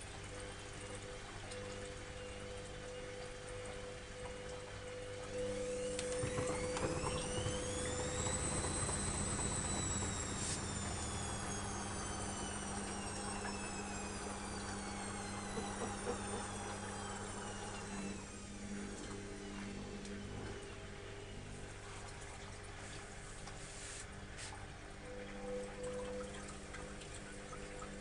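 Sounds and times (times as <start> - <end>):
steady low hum: 0.0 - 28.0
washing machine motor whine: 0.0 - 28.0.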